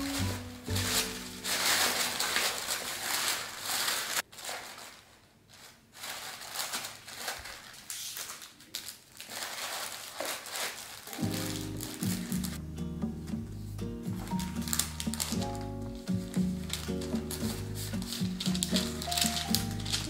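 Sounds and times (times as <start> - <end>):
packing paper crinkling: 0.0 - 12.6, 14.1 - 20.0.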